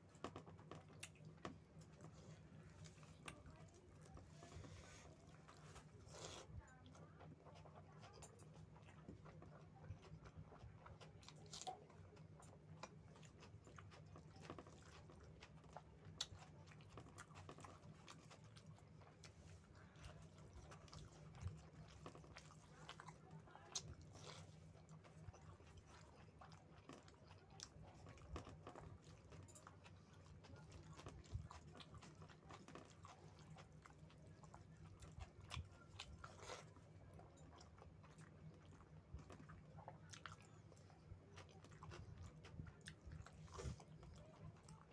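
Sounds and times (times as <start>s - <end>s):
low steady hum: 0.0s - 44.9s
person chewing: 0.0s - 44.9s.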